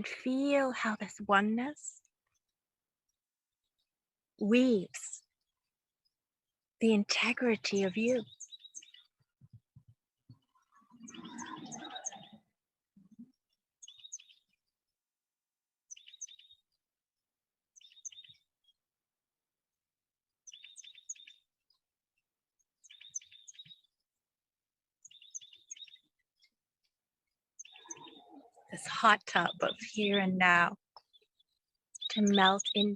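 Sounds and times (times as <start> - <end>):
songbird chirping phrase: 0.0 - 32.9.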